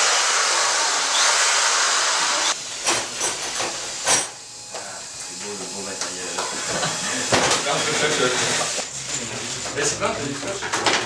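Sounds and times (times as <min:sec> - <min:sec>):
power tool rushing hiss: 0:00.0 - 0:09.1.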